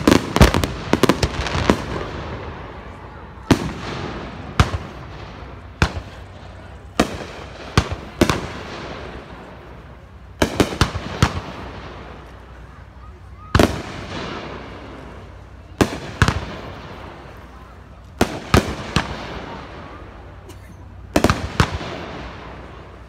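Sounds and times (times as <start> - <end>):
fireworks bursting with bangs: 0.0 - 23.0.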